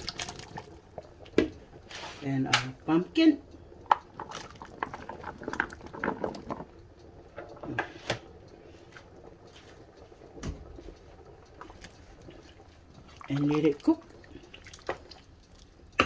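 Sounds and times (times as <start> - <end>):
pot simmering: 0.0 - 16.0.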